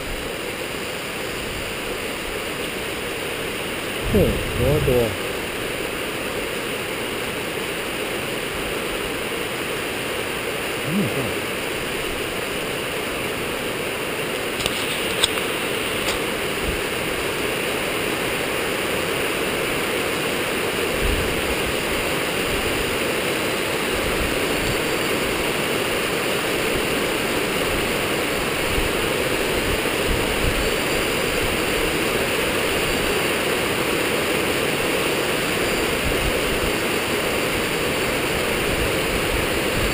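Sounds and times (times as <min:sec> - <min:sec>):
rain: 0:00.0 - 0:39.9
wind: 0:00.0 - 0:39.9.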